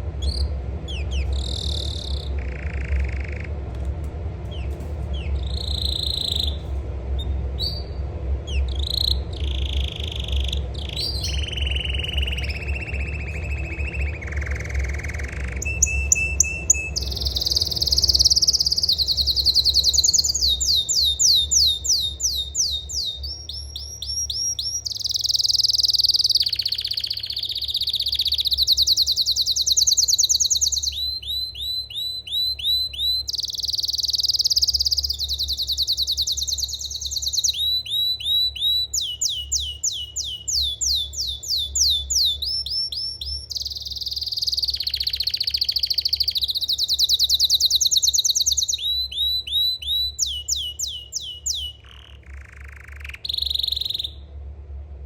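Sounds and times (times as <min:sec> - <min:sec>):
canary singing trills: 0:00.0 - 0:03.7, 0:04.5 - 0:54.4
steady low hum: 0:00.0 - 0:55.0.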